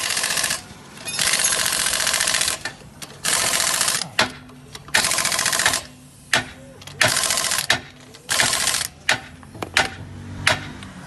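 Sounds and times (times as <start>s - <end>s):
pneumatic impact wrench rattling: 0.0s - 10.8s.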